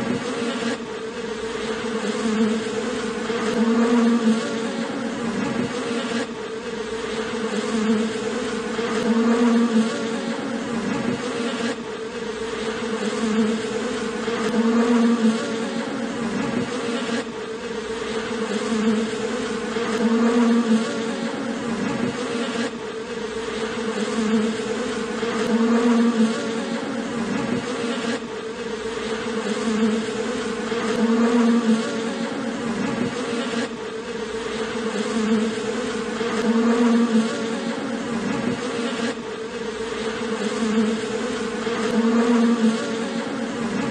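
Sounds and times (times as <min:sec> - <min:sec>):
honeybees buzzing: 0:00.0 - 0:43.9.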